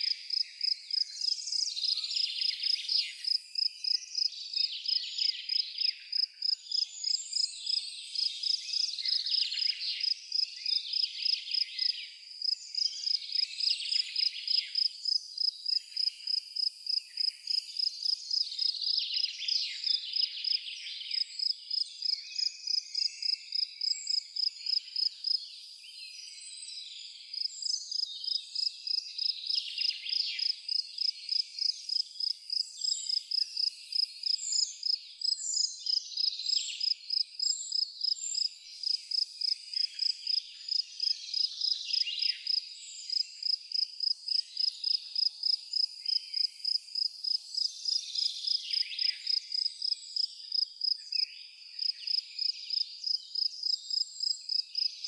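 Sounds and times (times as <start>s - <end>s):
cricket chirping: 0.0s - 25.4s, 26.7s - 55.0s
birds singing: 0.0s - 55.0s.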